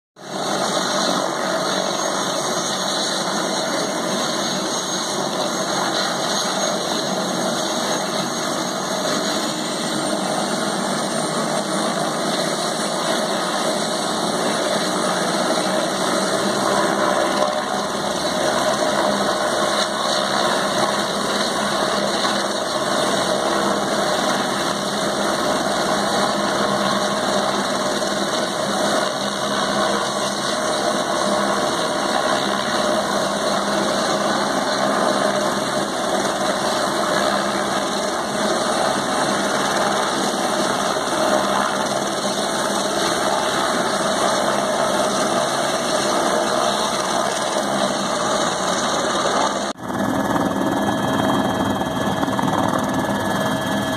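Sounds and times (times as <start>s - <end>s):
helicopter idling: 0.2s - 53.9s.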